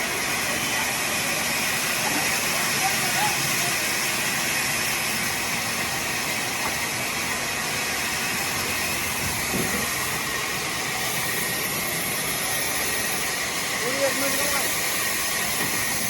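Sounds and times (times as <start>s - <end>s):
loud steady hiss: 0.0s - 16.0s.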